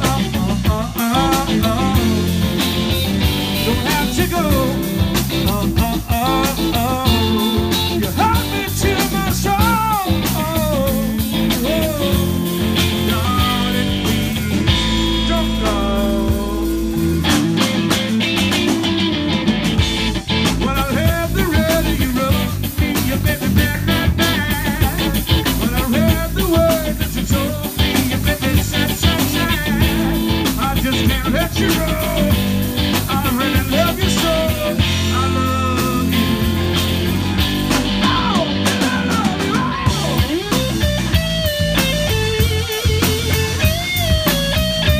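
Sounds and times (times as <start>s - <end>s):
drum kit: 0.0s - 44.9s
electric guitars: 0.0s - 44.9s.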